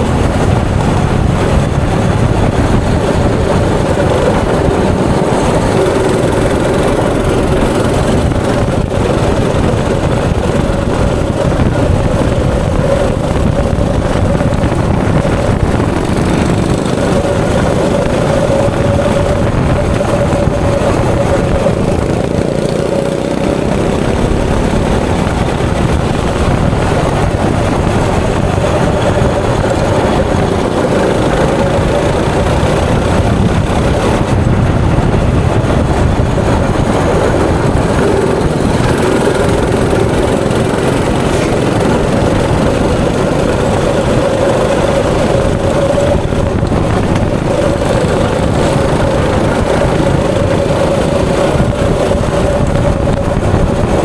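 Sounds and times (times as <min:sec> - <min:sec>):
go-kart engine running: 0:00.0 - 0:54.0
steady rushing noise: 0:00.0 - 0:54.0.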